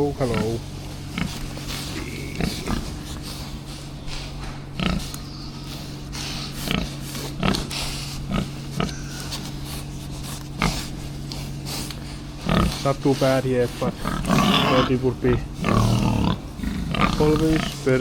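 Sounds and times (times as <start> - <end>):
pigs grunting: 0.0 - 18.0
steady engine hum: 0.0 - 18.0.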